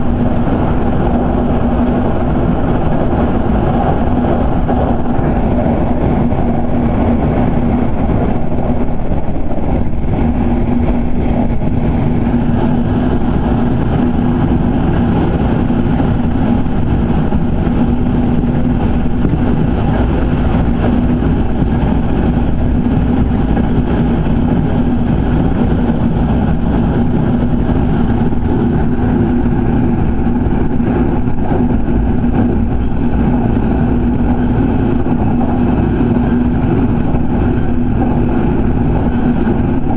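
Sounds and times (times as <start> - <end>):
steady low hum: 0.0 - 39.9
train wheels rolling on rails: 0.0 - 39.9.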